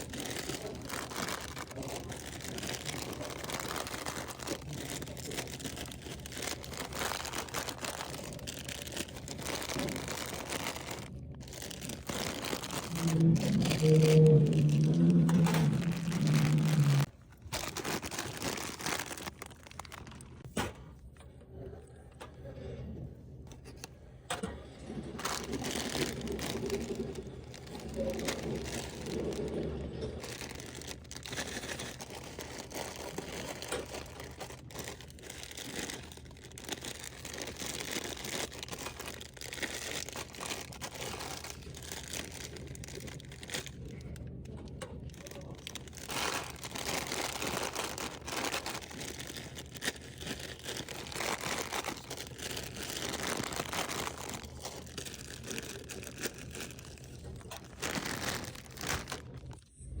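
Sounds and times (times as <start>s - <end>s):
packaging crinkling: 0.0s - 20.5s, 24.9s - 59.7s.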